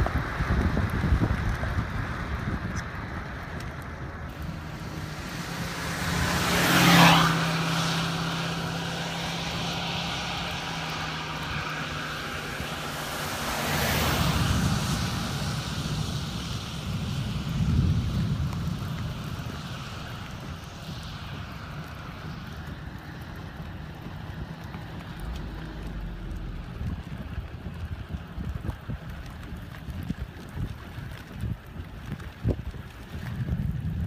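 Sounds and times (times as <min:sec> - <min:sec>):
vehicles passing: 0:00.0 - 0:34.0
wind on microphone: 0:00.0 - 0:34.0.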